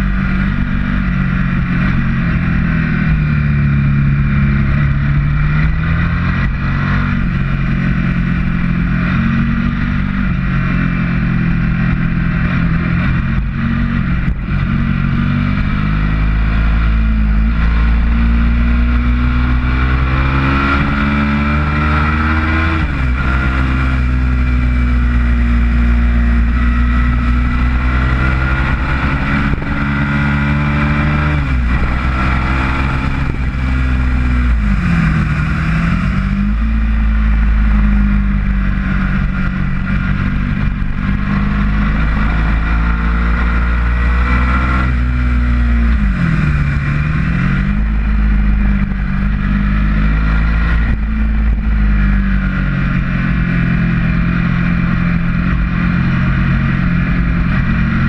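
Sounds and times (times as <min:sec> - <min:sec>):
motorcycle engine at high revs: 0:00.0 - 0:58.0
wind over microphone: 0:00.0 - 0:58.0.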